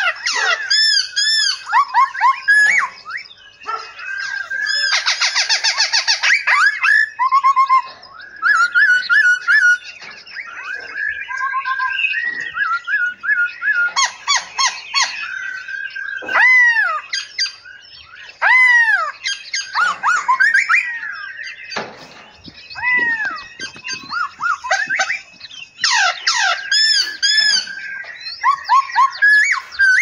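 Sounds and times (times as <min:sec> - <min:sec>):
loud whistled bird call: 0:00.0 - 0:30.0
songbirds chirping and trilling: 0:00.0 - 0:30.0.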